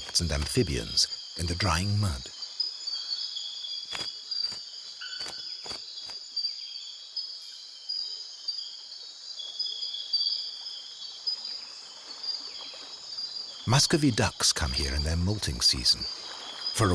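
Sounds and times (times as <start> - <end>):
tropical insects chorus: 0.0 - 16.9.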